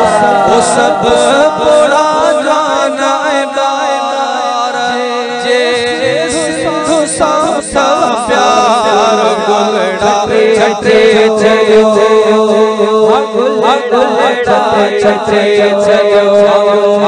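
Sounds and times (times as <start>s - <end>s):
lead voice singing melody: 0.0s - 17.0s
men singing held drone: 0.0s - 17.0s.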